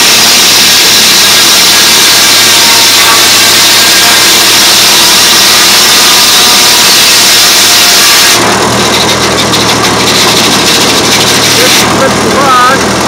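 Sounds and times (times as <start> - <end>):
mill engine and spinning blade: 0.0 - 13.0
saw blade cutting log: 0.0 - 13.0.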